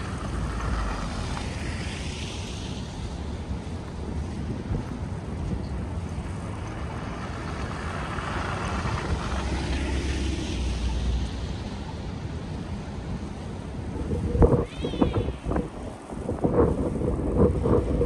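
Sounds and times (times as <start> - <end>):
wind buffeting microphone: 0.0 - 10.0, 11.5 - 18.0
traffic rumble: 0.0 - 18.0.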